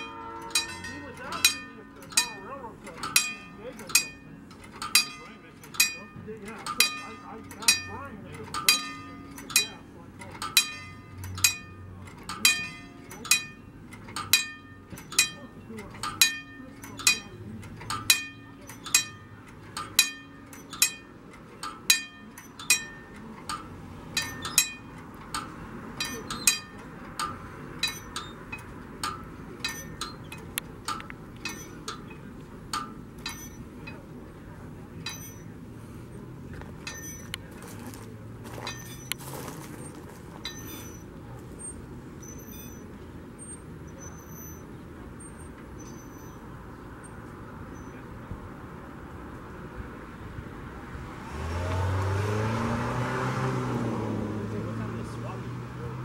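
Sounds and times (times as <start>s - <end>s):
crossing signal bell ringing: 0.0s - 48.0s.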